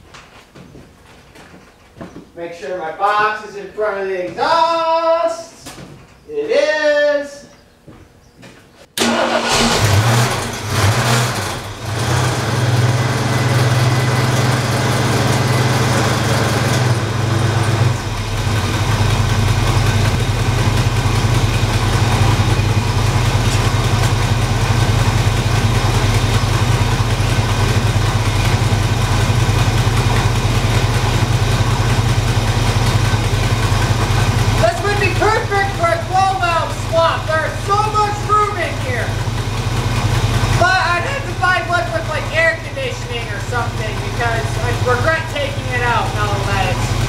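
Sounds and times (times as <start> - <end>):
truck engine starting and idling: 9.0 - 47.0.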